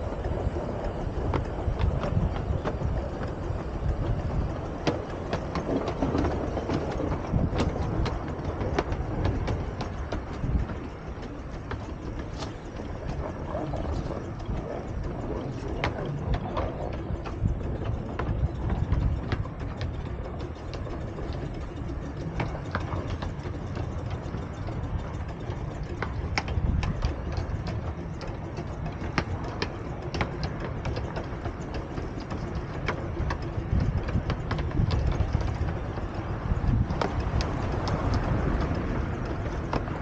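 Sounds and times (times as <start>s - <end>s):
steam locomotives rumbling: 0.0s - 40.0s.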